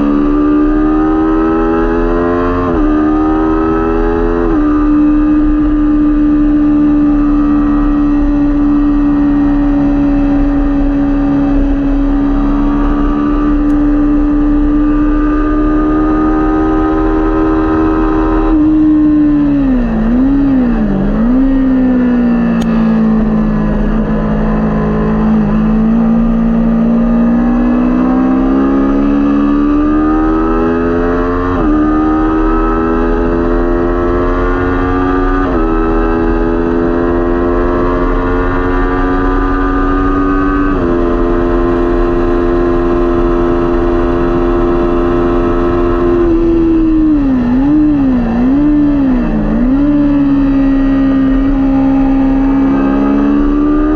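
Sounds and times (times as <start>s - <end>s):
engine upshifts: 0.0s - 53.9s
motorcycle engine revving: 0.0s - 53.9s.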